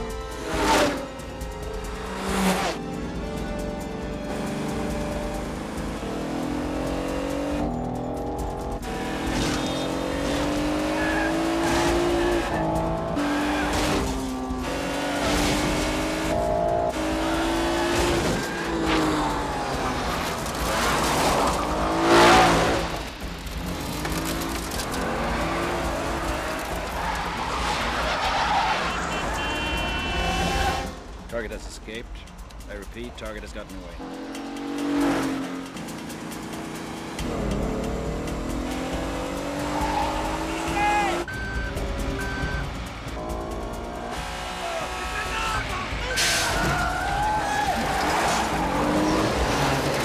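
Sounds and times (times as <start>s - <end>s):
racing car engines revving: 0.0s - 50.0s.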